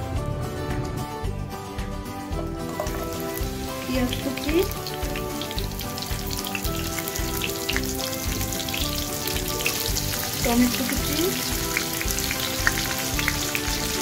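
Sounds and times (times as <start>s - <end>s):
background music: 0.0s - 14.0s
onions sizzling in hot oil: 2.6s - 14.0s.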